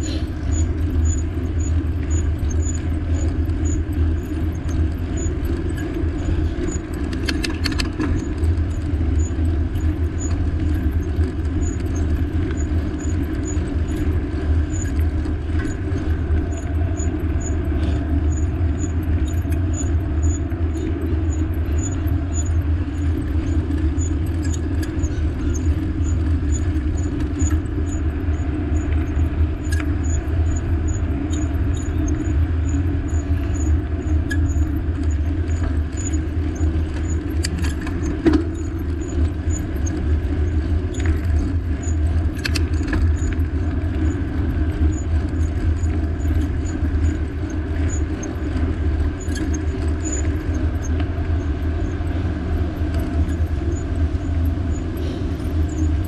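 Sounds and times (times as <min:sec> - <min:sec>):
rumbling wind and road noise: 0:00.0 - 0:56.0
faint regular ticking: 0:00.1 - 0:56.0.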